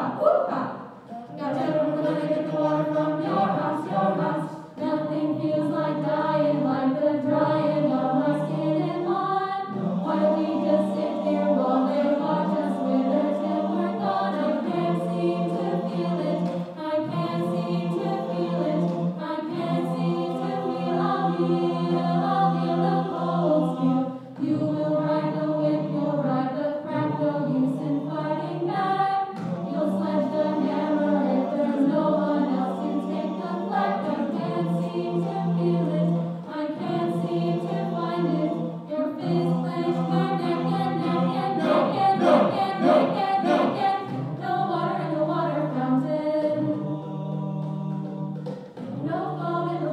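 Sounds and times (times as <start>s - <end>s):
mixed choir singing a cappella: 0.0s - 49.9s.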